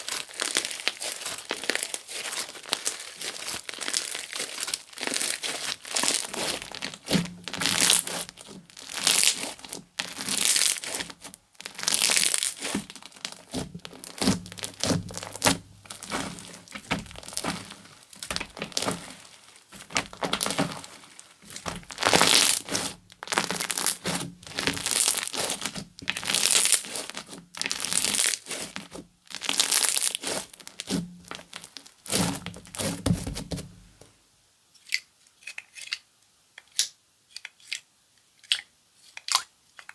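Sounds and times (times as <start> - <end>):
slime squeezed crackling: 0.0 - 33.6.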